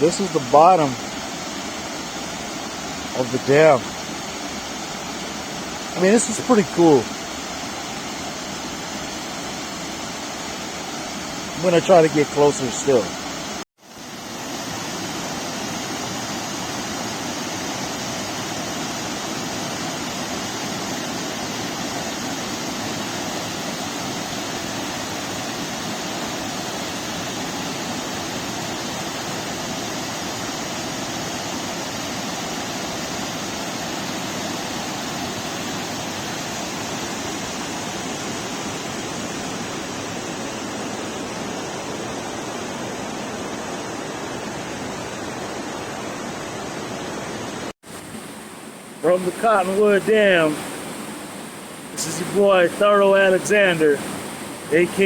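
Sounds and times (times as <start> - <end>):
water rushing over dam: 0.0 - 55.0.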